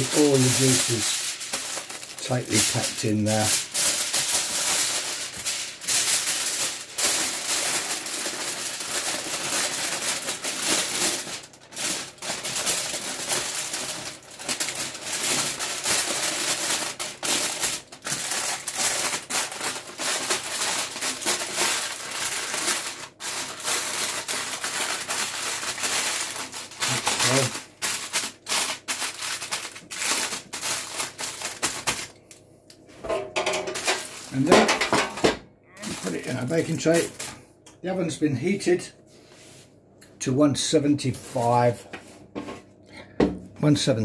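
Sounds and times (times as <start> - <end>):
aluminium foil crinkling: 0.0 - 32.4, 33.3 - 35.2, 35.8 - 37.4.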